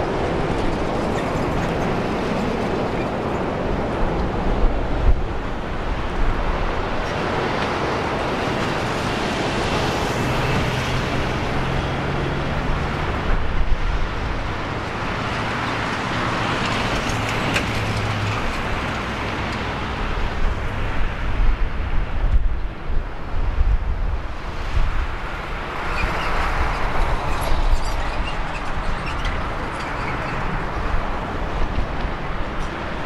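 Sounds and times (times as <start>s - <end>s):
jet engines at taxi power: 0.0s - 33.0s.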